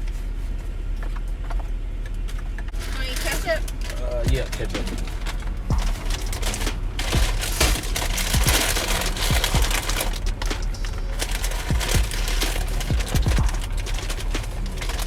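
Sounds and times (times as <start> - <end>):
paper or plastic crinkling: 2.7 - 15.0.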